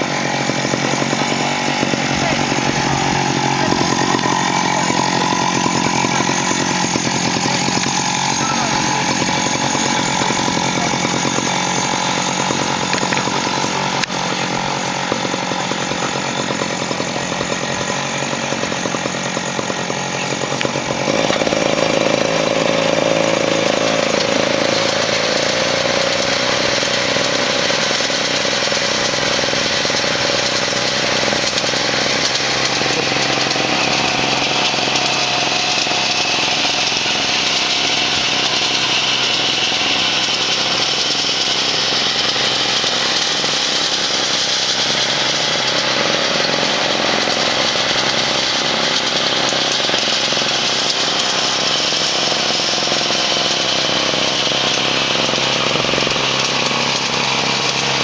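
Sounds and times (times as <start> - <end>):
small locomotive engine running: 0.0 - 58.0.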